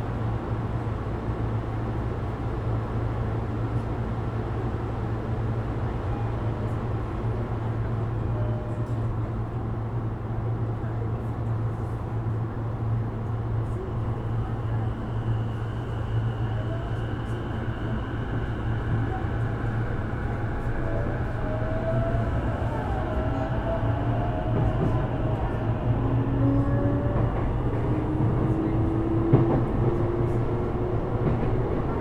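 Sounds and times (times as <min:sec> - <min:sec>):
train wheels rumbling on rail: 0:00.1 - 0:32.0.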